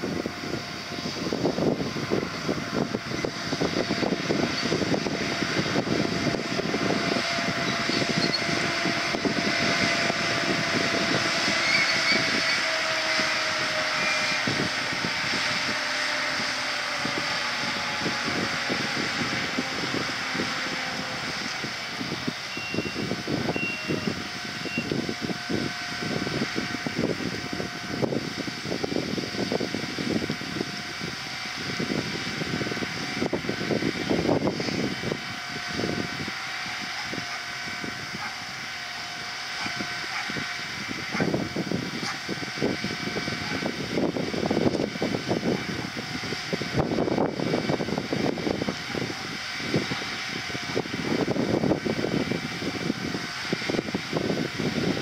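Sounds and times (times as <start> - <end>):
diesel train idling hum: 0.0 - 55.0
wind buffeting microphone: 0.0 - 55.0.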